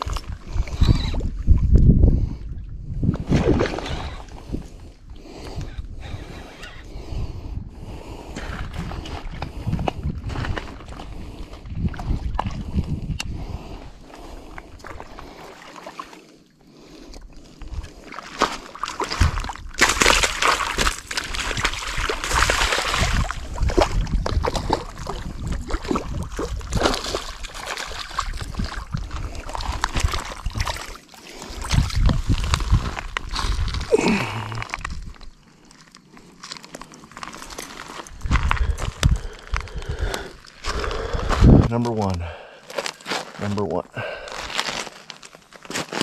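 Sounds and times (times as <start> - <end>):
fish splashing and thrashing: 0.0 - 41.5, 42.4 - 43.4, 44.0 - 46.0.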